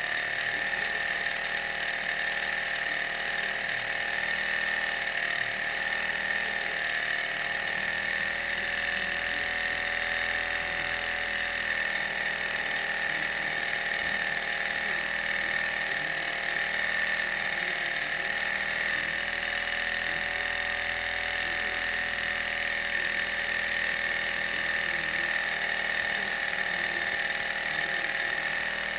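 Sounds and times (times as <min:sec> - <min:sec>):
small engines whirring and whining: 0:00.0 - 0:28.9.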